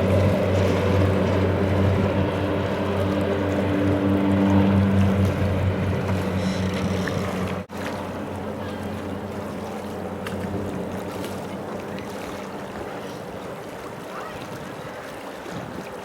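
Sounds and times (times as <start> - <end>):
floatplane engine droning: 0.0 - 16.0.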